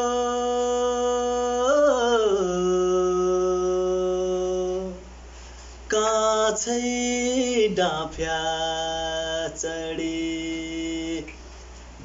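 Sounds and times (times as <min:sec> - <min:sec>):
man singing long note: 0:00.0 - 0:05.0, 0:05.9 - 0:11.3.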